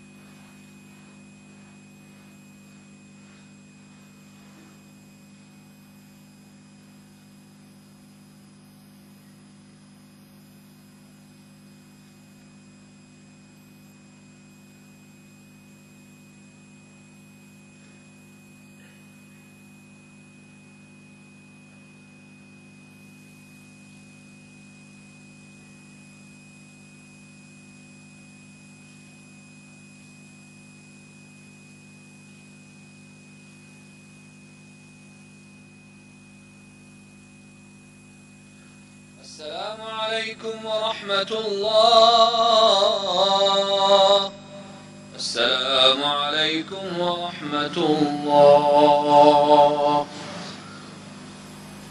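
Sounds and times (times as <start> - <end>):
faint electrical hum: 0.0 - 51.9.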